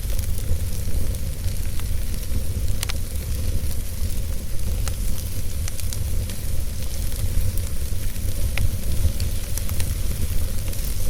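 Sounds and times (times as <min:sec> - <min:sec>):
fire crackling: 0:00.0 - 0:11.0
wood fire rumbling: 0:00.0 - 0:11.0.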